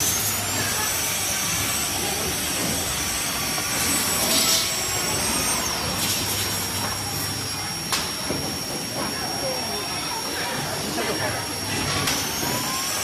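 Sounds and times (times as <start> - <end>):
stick vacuum cleaner running: 0.0 - 13.0.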